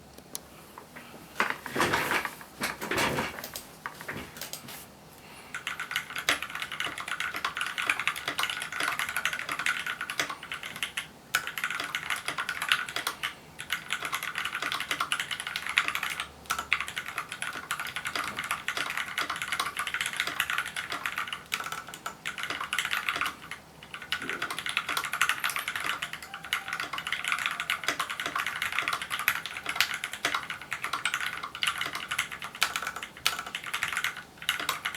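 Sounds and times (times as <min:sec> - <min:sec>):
typing on mechanical keyboard: 0:05.5 - 0:34.9.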